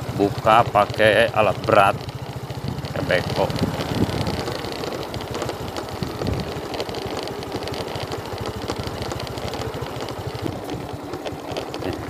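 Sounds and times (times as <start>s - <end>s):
motorcycle engine putter: 0.0s - 12.0s.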